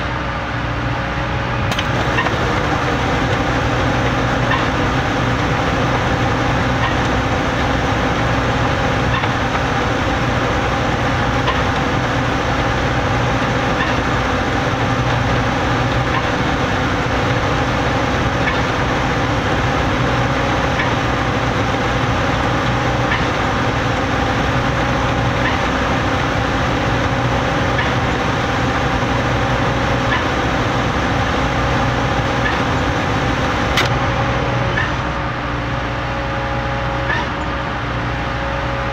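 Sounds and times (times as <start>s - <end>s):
engine drone: 0.0s - 38.9s
machinery hum: 0.0s - 38.9s.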